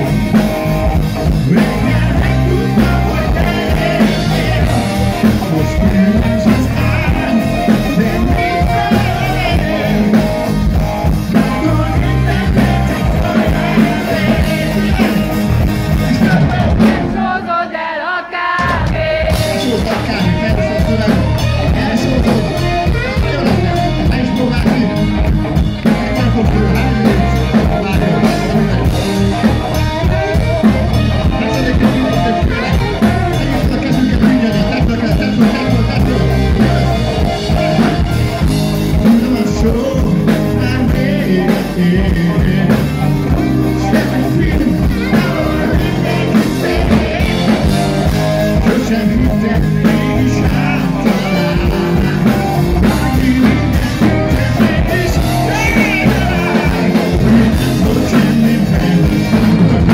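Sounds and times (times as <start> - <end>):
bass guitar: 0.0 - 17.6, 18.6 - 59.9
drum kit: 0.0 - 17.8, 18.5 - 59.9
keyboards: 0.0 - 17.9, 18.6 - 59.9
man singing: 0.0 - 59.9.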